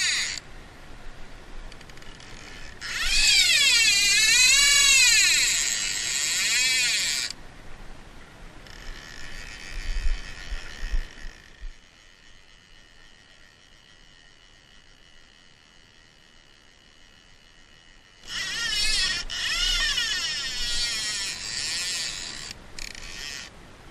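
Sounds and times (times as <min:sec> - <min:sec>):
fly reel ratcheting buzz: 0:00.0 - 0:00.4, 0:01.8 - 0:07.4, 0:08.7 - 0:23.5.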